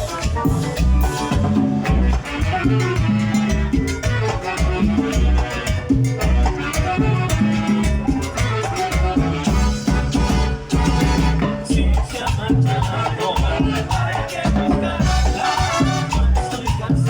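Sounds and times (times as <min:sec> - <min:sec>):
latin dance orchestra playing: 0:00.0 - 0:17.0
maracas: 0:00.0 - 0:17.0.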